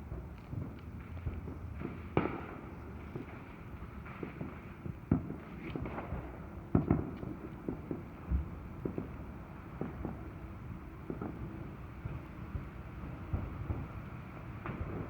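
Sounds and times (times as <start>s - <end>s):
distant fireworks popping and banging: 0.0s - 15.0s.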